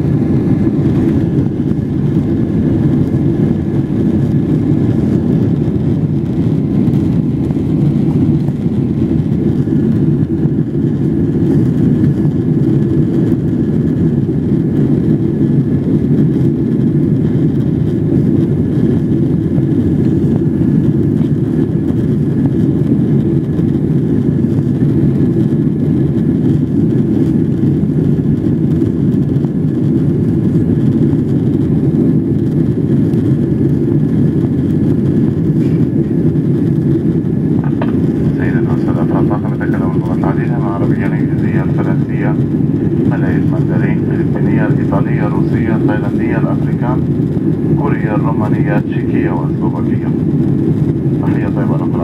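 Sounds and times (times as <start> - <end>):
faint steady whine: 0.0 - 52.0
jet engine cabin roar: 0.0 - 52.0.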